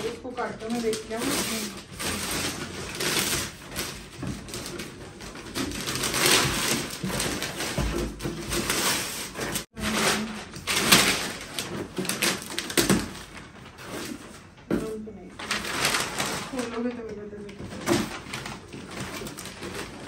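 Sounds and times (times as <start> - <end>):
wrapping paper tearing and crumpling: 0.0 - 20.0.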